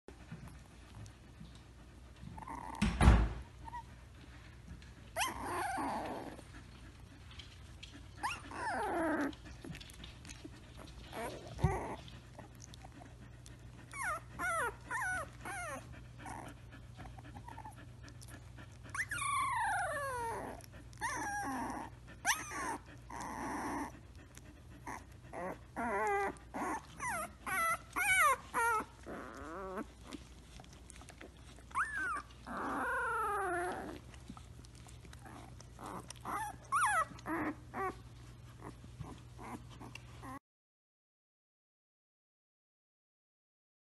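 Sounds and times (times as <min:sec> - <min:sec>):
puppy whining and grumbling: 0:00.1 - 0:40.4.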